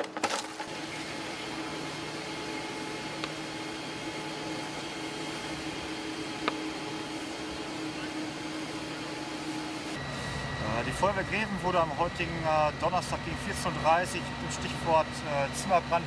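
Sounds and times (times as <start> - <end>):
fire engine pump humming: 0.0 - 16.0.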